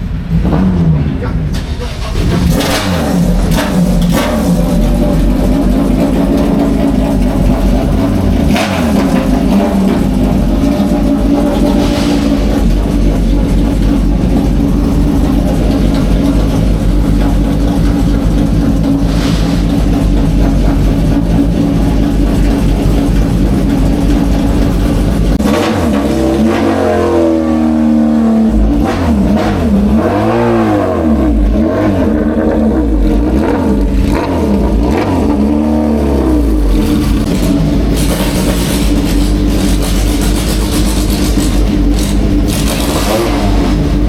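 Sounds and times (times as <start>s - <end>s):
racing car engines revving: 0.0s - 44.0s.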